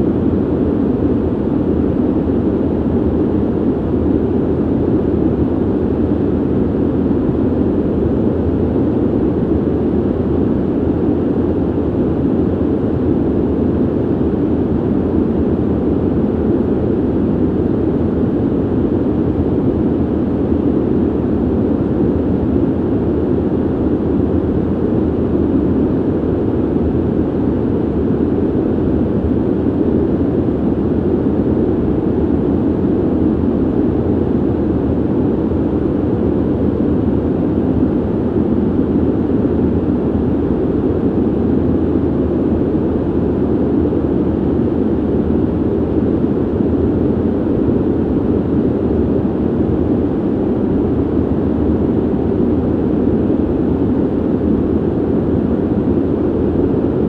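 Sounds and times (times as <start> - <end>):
ventilation air rush: 0.0 - 57.0.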